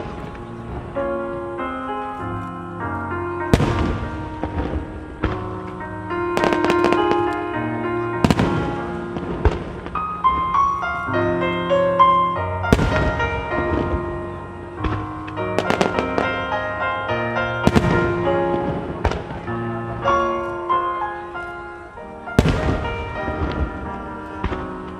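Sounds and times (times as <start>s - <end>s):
fireworks bursting: 0.0s - 2.5s, 3.4s - 24.9s
music: 0.0s - 24.9s.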